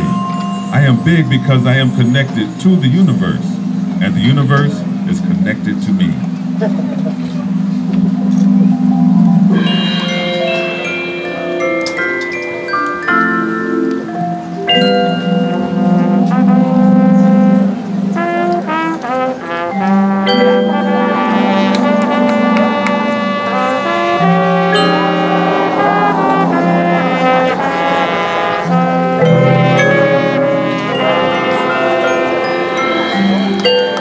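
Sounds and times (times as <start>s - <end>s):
brass sustained chords: 0.0s - 34.0s
percussion strikes: 0.0s - 34.0s.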